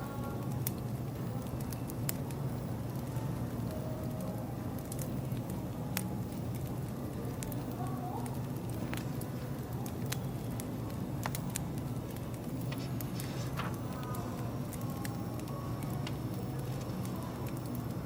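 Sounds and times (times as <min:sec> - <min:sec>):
steady low hum: 0:00.0 - 0:18.0
wood fire crackling: 0:00.0 - 0:18.0.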